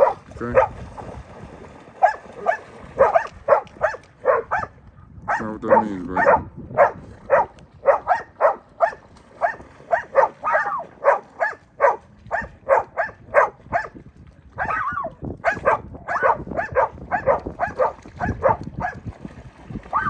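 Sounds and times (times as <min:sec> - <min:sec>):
dog barking: 0:00.0 - 0:00.8, 0:02.0 - 0:04.7, 0:05.3 - 0:13.9, 0:14.6 - 0:19.0.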